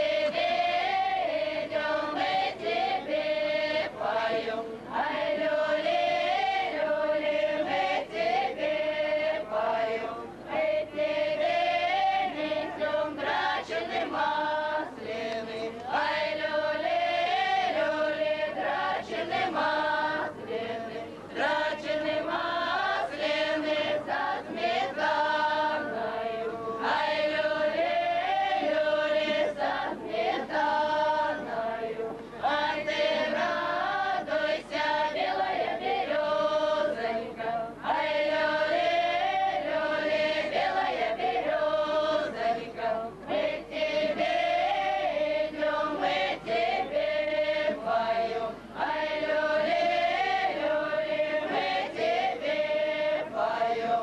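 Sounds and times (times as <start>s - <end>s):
choir singing folk song: 0.0s - 54.0s.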